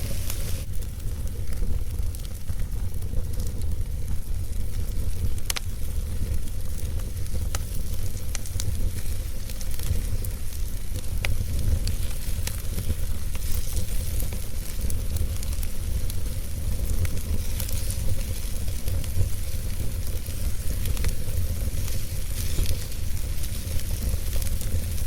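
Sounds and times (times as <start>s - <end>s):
low rumble: 0.0s - 25.0s
sharp fire pops: 0.0s - 25.0s
wood fire crackling: 0.0s - 25.0s.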